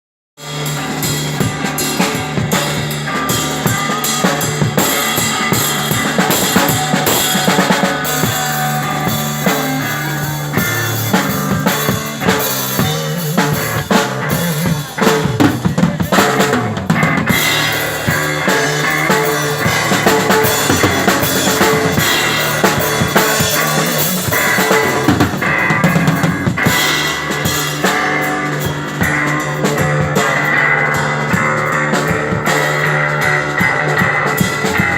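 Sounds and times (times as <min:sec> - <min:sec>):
rock drum kit playing: 0:00.4 - 0:34.9.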